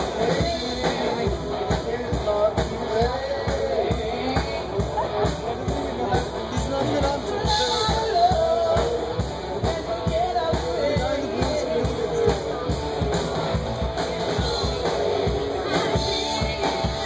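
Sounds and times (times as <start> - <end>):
drum beat: 0.0 - 17.0
live rock band playing: 0.0 - 17.0
person singing: 0.0 - 17.0.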